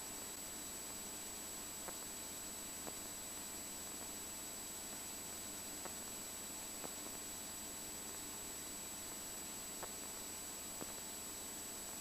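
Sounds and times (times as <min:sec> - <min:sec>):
faint electronic hiss: 0:00.0 - 0:12.0.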